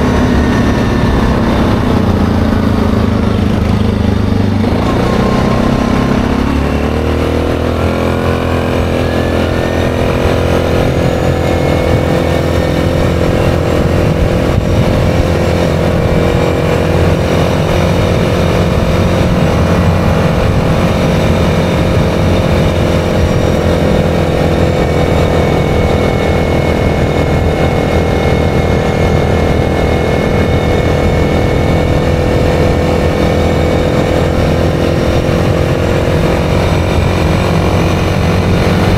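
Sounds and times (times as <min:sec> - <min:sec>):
engine revving and cruising: 0:00.0 - 0:38.9
wind rumble on microphone: 0:00.0 - 0:38.9.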